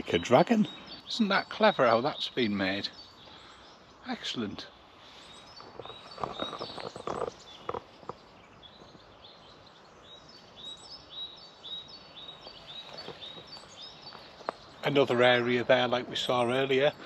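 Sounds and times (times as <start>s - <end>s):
rustles: 0.0s - 17.0s.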